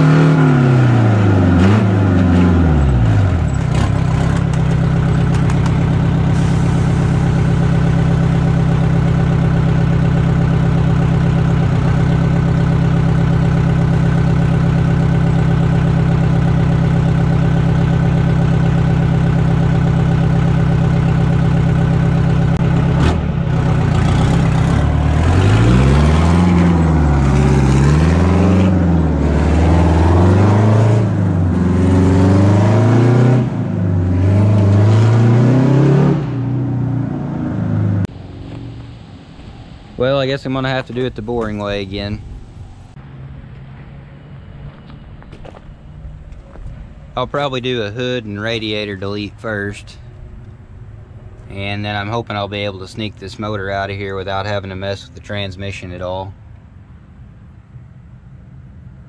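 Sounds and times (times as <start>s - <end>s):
vehicle engine revving: 0.0s - 53.9s.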